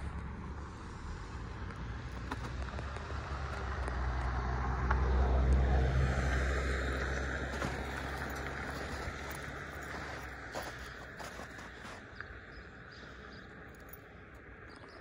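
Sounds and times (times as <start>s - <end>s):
car passing: 0.0s - 15.0s.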